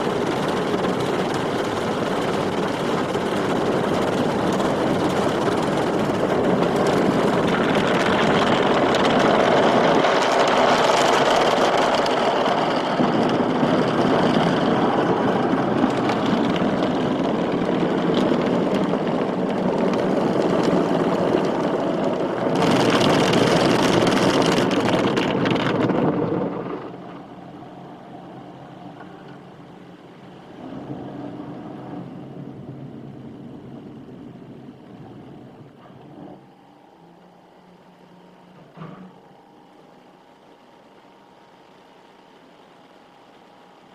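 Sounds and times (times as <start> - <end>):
car wash machinery and water: 0.0 - 43.9
low hum: 0.0 - 43.9.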